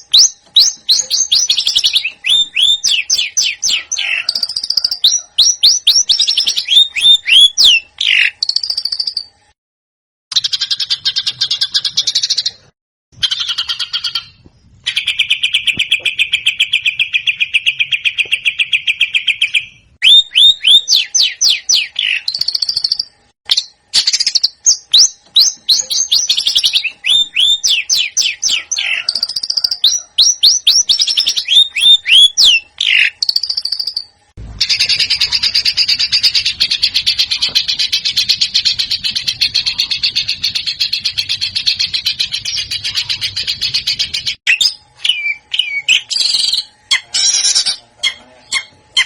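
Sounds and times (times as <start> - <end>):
songbird trilling and whistling: 0.0 - 9.3, 10.3 - 12.6, 13.2 - 49.0.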